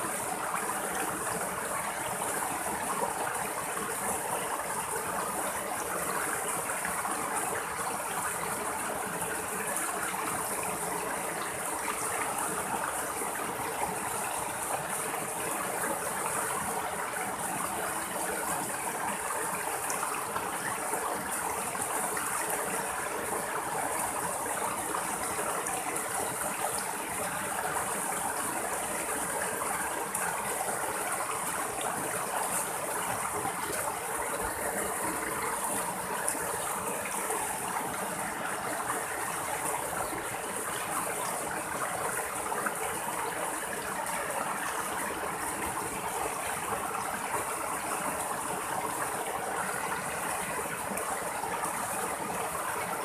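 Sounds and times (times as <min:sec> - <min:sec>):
stream water splashing over rocks: 0:00.0 - 0:53.0.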